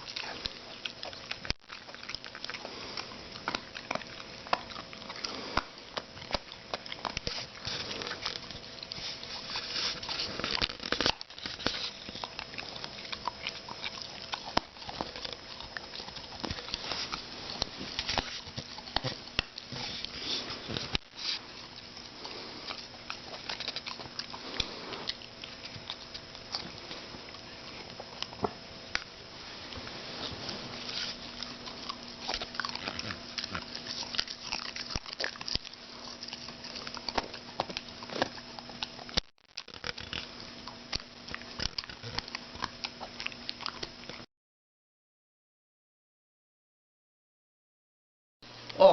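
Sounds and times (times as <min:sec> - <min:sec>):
dog chewing and mouthing: 0:00.0 - 0:44.3
steady low hum: 0:00.0 - 0:44.3.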